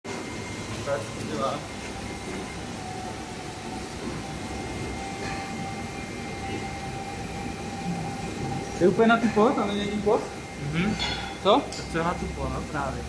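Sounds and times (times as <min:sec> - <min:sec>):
thin steady whine: 0:00.1 - 0:13.0
welding machine hiss and hum: 0:00.1 - 0:13.0.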